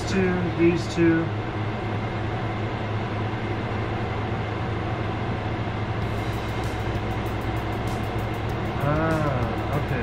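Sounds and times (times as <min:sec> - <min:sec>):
shop machinery humming: 0:00.0 - 0:10.0.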